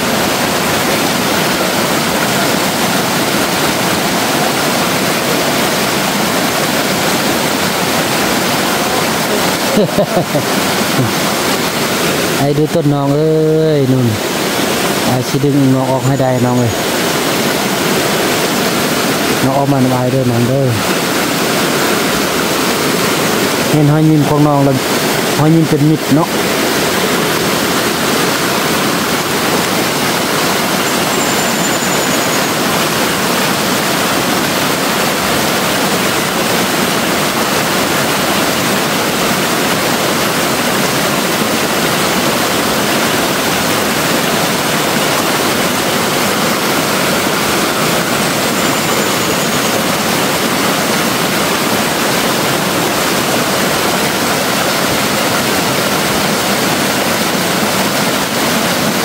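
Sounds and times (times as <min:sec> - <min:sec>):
fast-flowing stream: 0:00.0 - 0:59.0.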